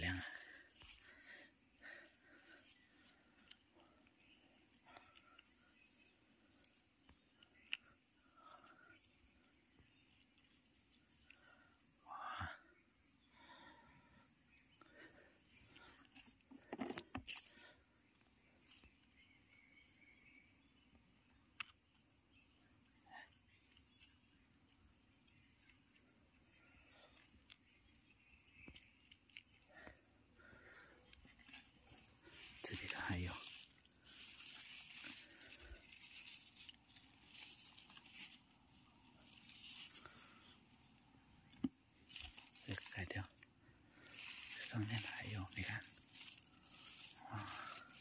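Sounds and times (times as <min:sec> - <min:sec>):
rustles and crackles: 0:00.0 - 0:11.4, 0:14.9 - 0:19.8, 0:21.6 - 0:48.0.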